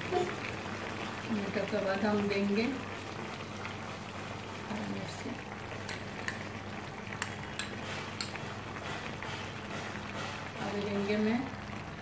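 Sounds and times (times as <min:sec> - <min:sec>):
meat frying and simmering hiss: 0:00.0 - 0:12.0.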